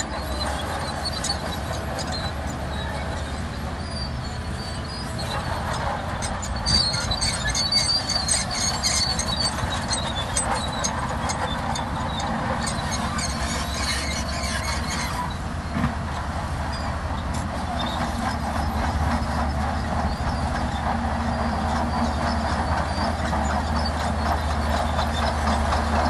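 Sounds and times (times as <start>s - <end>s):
bulldozer tracks squealing and clanking: 0.0s - 26.0s
diesel engine drone: 0.0s - 26.0s.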